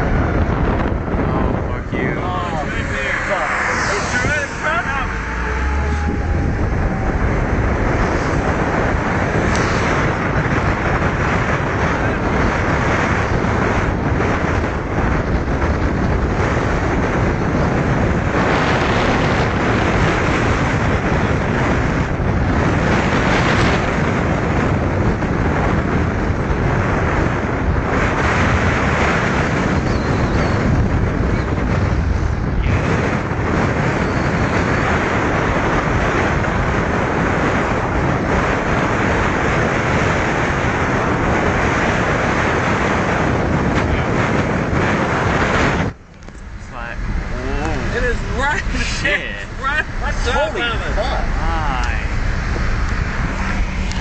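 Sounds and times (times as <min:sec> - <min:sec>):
road and wind noise inside car: 0:00.0 - 0:54.0.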